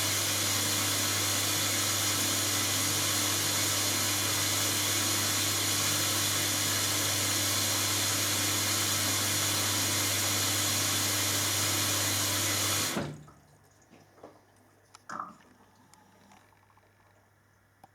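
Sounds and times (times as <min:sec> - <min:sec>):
water rushing into washing machine: 0:00.0 - 0:17.1.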